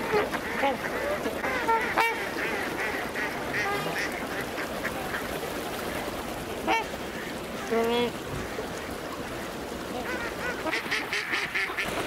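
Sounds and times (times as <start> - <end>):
flock of waterfowl calling: 0.0 - 12.0.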